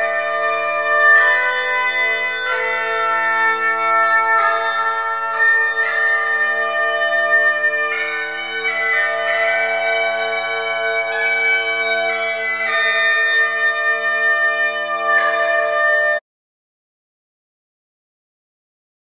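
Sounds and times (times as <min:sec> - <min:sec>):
bagpipe drones: 0:00.0 - 0:16.2
bagpipe melody: 0:00.0 - 0:16.2.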